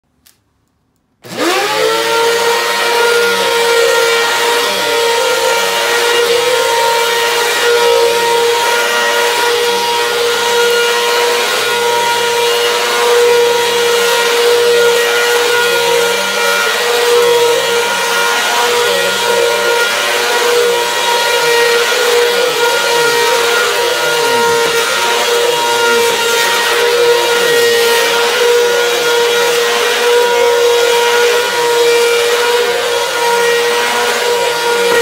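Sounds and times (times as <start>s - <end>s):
vacuum cleaner motor whine: 1.2s - 35.0s.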